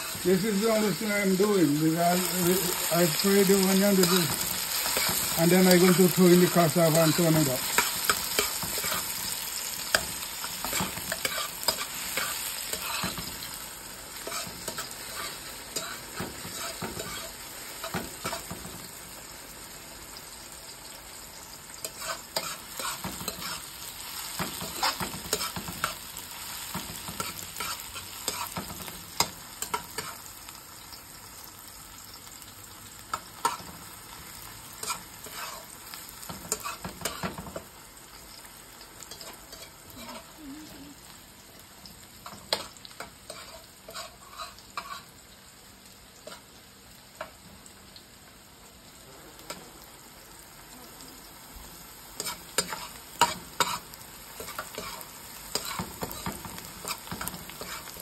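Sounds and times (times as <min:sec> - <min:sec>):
onion sizzling in oil: 0:00.0 - 0:58.0.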